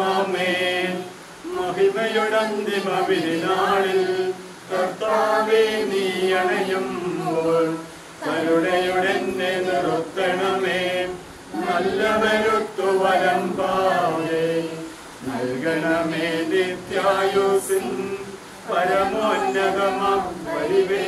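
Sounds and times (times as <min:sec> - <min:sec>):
men chanting liturgy: 0:00.0 - 0:21.0.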